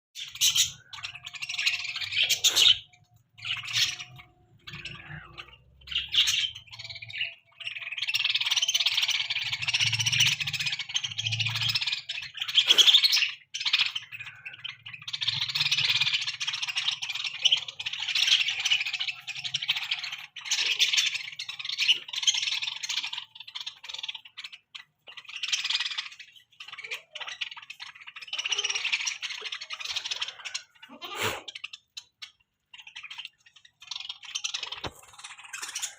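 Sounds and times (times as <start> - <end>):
budgerigars chattering and squawking: 0.2 - 35.9.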